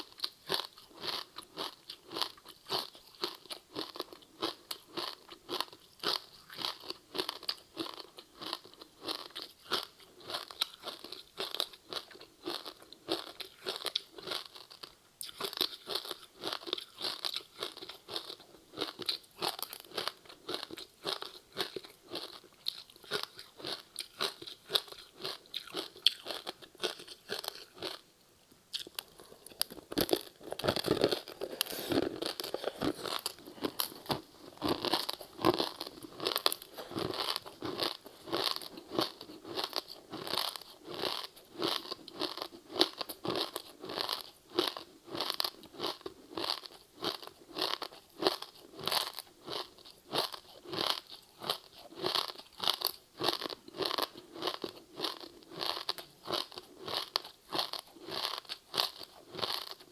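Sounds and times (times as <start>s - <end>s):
crunchy chewing of seaweed snack: 0.0s - 28.1s, 28.7s - 59.9s.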